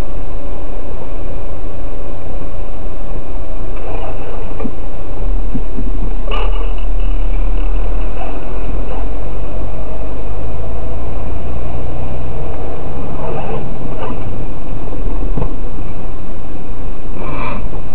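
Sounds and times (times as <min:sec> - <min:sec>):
road noise: 0:00.0 - 0:17.9
vehicle engine rumble: 0:00.0 - 0:17.9.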